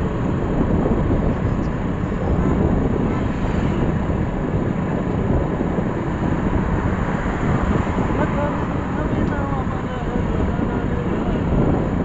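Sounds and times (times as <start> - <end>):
vehicle and road noise: 0.0 - 12.0
wind buffeting microphone: 0.0 - 12.0.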